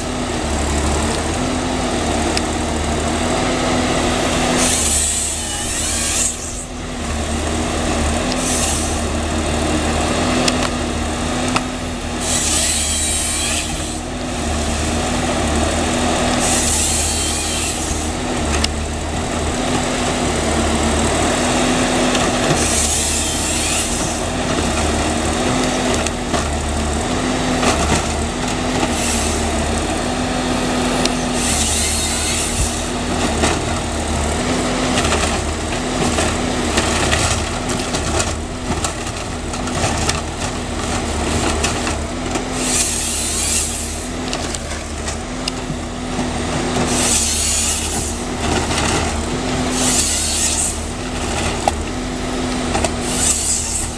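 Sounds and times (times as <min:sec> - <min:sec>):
diesel engine running: 0:00.0 - 0:53.9
chainsaw cutting wood: 0:03.2 - 0:39.0, 0:41.2 - 0:45.7, 0:46.6 - 0:53.9.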